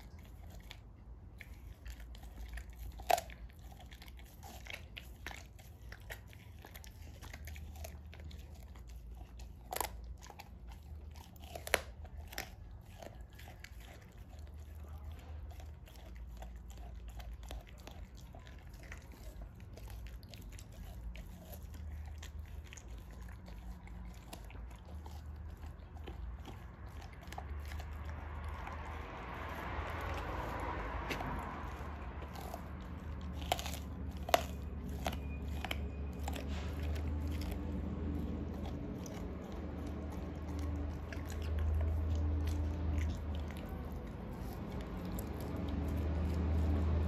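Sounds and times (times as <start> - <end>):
dog chewing raw meat: 0.0 - 47.0.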